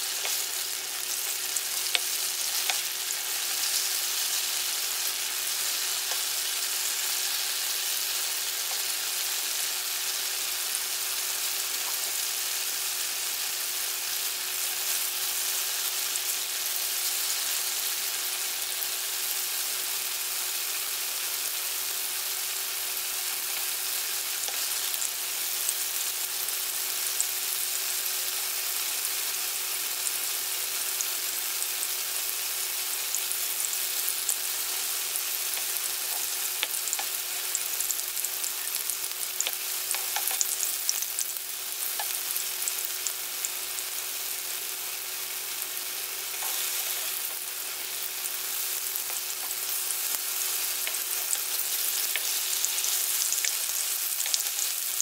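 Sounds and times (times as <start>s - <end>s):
tofu sizzling in oil: 0.0s - 55.0s.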